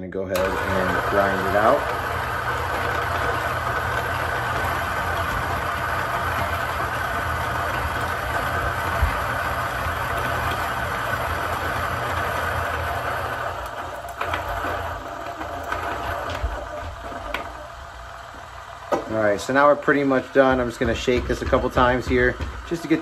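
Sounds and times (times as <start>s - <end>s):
coffee grinder grinding beans: 0.3s - 23.0s.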